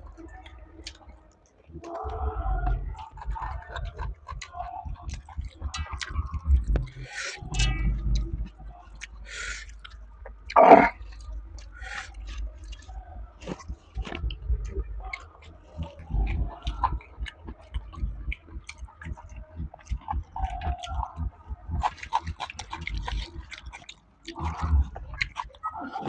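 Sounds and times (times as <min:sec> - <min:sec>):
person chewing with wet smacks: 0:00.1 - 0:26.0.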